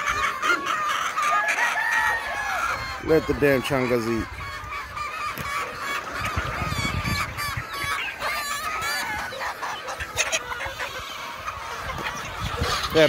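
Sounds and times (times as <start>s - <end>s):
chickens and roosters squawking: 0.0s - 13.0s.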